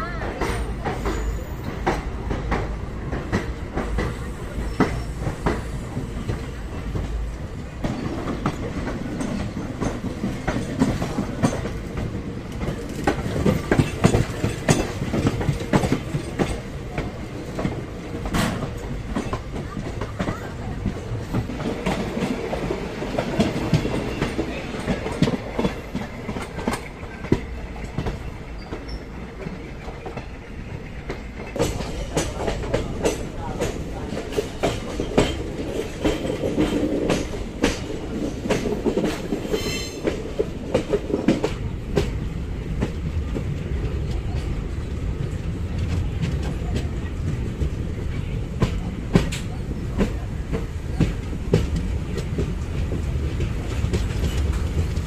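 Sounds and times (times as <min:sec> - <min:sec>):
second train passing: 0:00.0 - 0:55.0
train wheels clattering over rails: 0:00.0 - 0:55.0.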